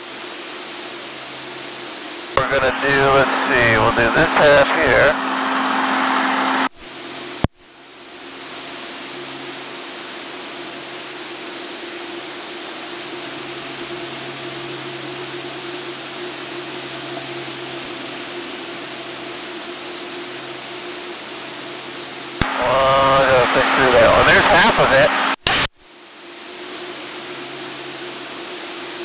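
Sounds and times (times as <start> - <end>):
plane engine and wind hiss: 0.0 - 25.2, 26.0 - 29.0
faint steady hum: 0.0 - 29.0.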